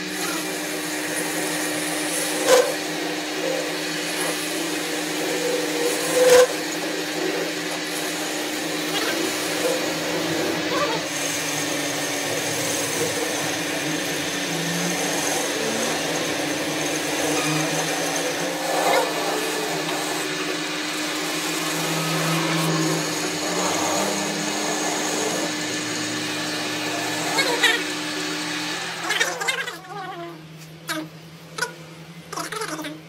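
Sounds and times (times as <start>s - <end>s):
metal lathe motor hum and whine: 0.0s - 29.6s, 30.4s - 32.6s.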